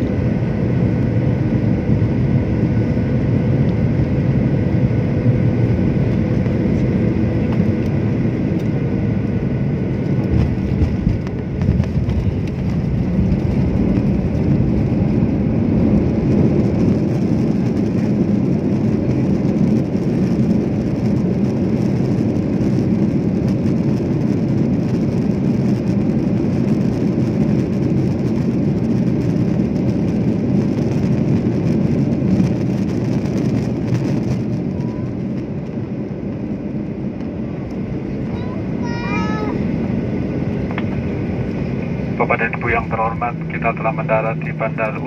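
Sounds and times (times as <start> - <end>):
aircraft cabin engine rush: 0.0 - 45.0.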